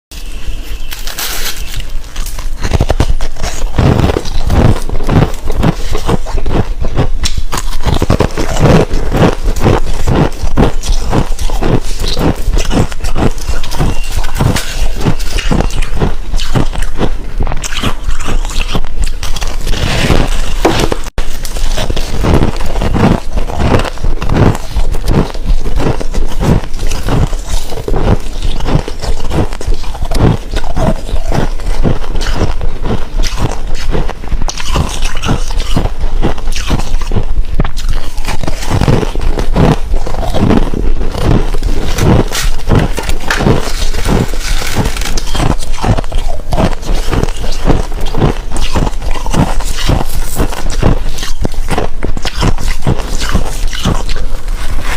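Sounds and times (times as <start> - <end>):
crunching and chewing frost: 0.1 - 54.9.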